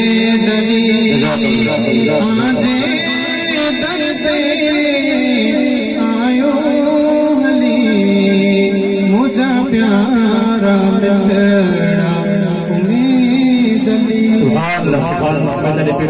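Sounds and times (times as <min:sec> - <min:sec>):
person singing long wavering notes: 0:00.0 - 0:15.8
music: 0:00.0 - 0:16.0.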